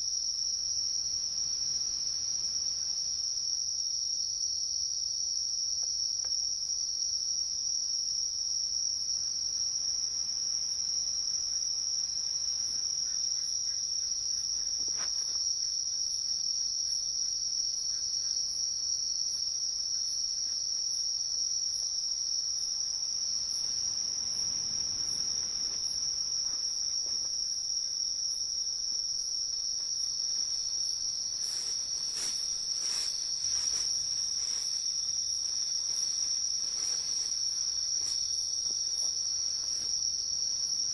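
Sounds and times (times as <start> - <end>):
insect chorus: 0.0 - 40.9.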